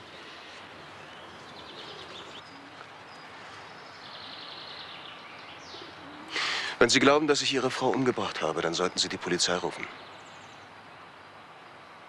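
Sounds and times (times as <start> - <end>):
background hiss: 0.0 - 12.0
birds twittering faintly: 0.0 - 12.0.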